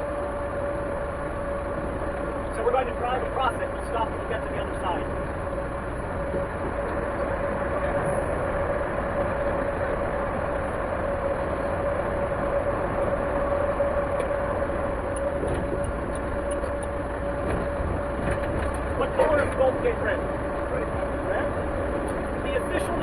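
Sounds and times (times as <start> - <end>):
car road noise: 0.0 - 23.0.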